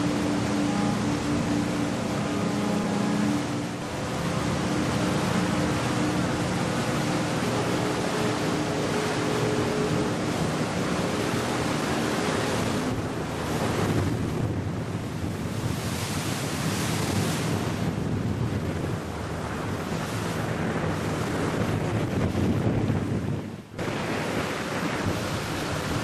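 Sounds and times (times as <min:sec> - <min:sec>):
boat engine drone: 0:00.0 - 0:26.0
steady engine hum: 0:00.0 - 0:26.0
water rushing from boat hull: 0:00.0 - 0:26.0
wind buffeting microphone: 0:00.0 - 0:26.0.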